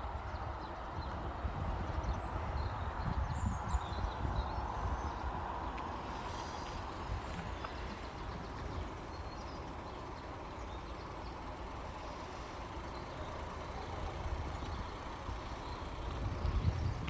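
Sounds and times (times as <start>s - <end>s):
rumble of road vehicles: 0.0s - 17.0s.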